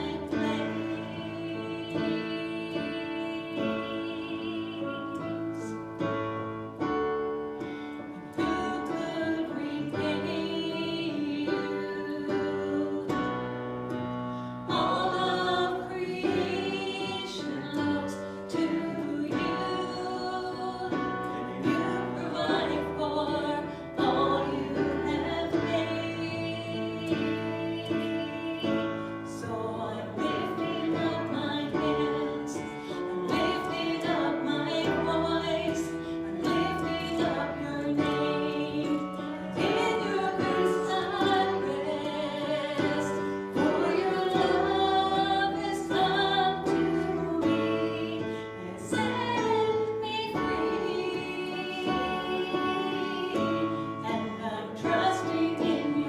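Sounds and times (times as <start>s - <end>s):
group singing gospel song: 0.0s - 56.0s
instrumental accompaniment: 0.0s - 56.0s.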